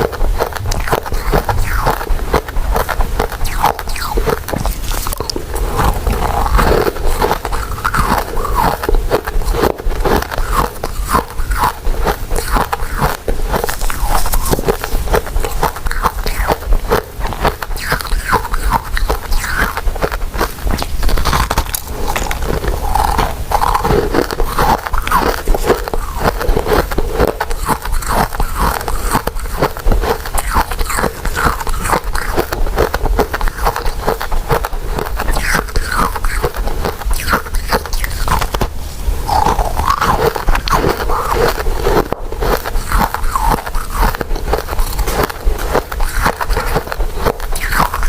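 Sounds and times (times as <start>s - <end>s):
person chewing wetly: 0.0s - 48.0s.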